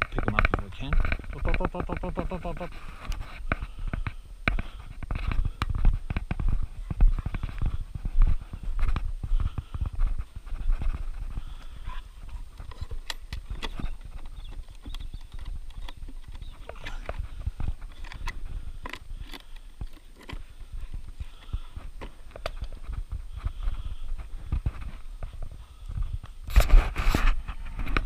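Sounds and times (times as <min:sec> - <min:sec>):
low rumble of camera movement: 0:00.0 - 0:28.0.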